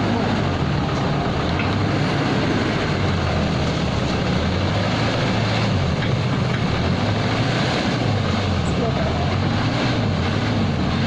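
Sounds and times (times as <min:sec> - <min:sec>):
backhoe diesel engine running: 0:00.0 - 0:11.0.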